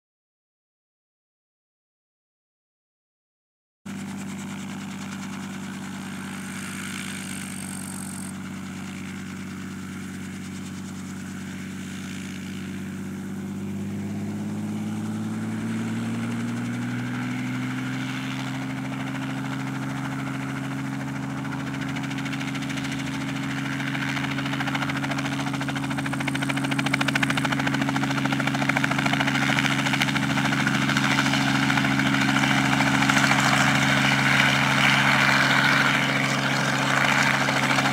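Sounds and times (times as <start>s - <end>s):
helicopter engine and rotor: 3.9s - 37.9s.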